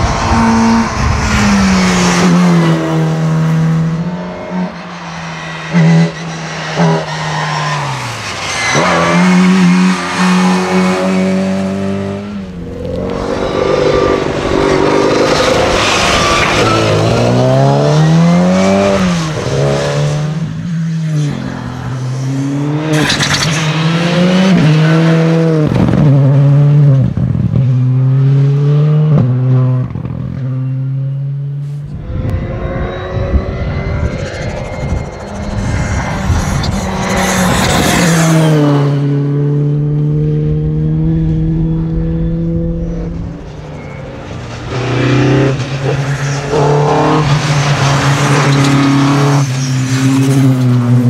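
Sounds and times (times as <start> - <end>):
noisy rush: 0.0 - 25.8, 31.7 - 51.0.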